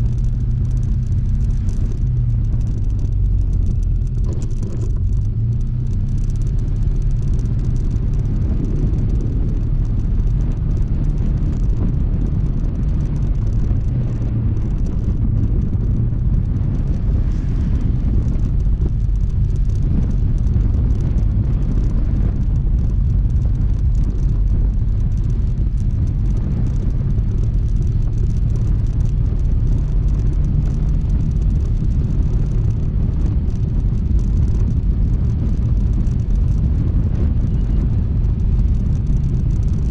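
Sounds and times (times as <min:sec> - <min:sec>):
road noise: 0:00.0 - 0:39.9
scooter engine rumble: 0:00.0 - 0:39.9.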